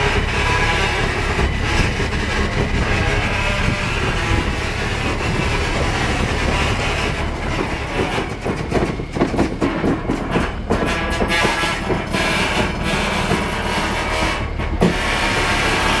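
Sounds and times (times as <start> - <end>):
diesel locomotive running: 0.0 - 16.0
wheels rolling on rails: 0.0 - 16.0.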